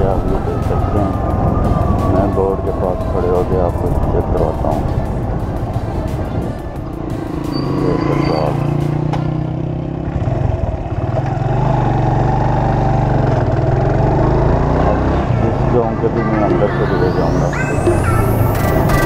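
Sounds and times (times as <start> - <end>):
background music: 0.0 - 10.2, 13.7 - 19.0
motorcycle engine running: 0.0 - 19.0.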